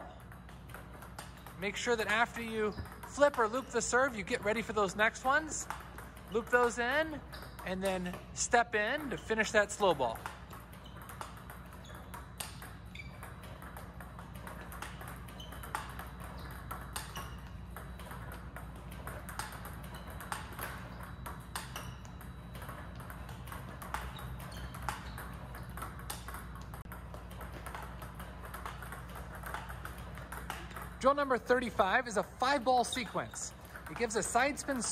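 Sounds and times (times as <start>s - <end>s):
table tennis balls clicking: 0.0s - 34.9s.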